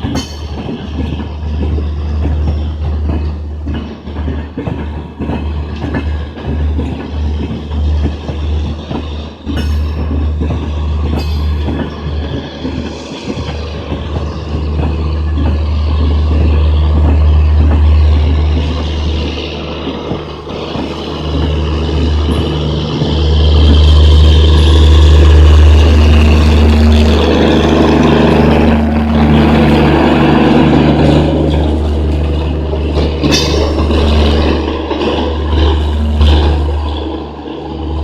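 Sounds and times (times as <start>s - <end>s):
heavy engine rumbling: 0.0s - 38.0s.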